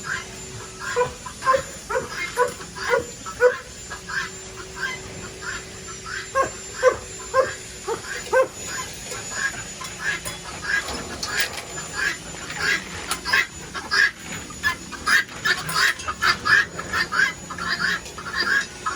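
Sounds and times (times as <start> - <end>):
farm animals calling: 0.0 - 18.9.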